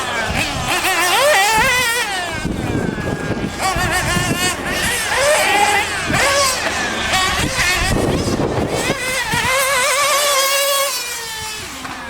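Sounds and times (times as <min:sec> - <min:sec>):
rc car engines whining: 0:00.0 - 0:12.0.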